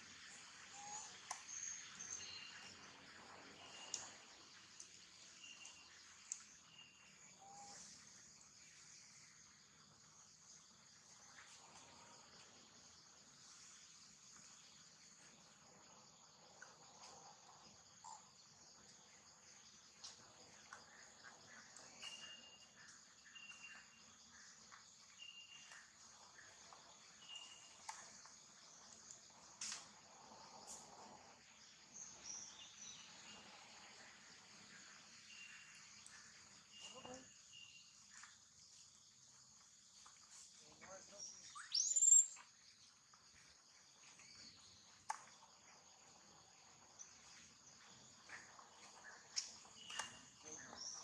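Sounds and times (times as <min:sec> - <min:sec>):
crickets buzzing: 0:00.0 - 0:51.0
insect chorus: 0:00.0 - 0:51.0
soft chirps: 0:00.1 - 0:51.0.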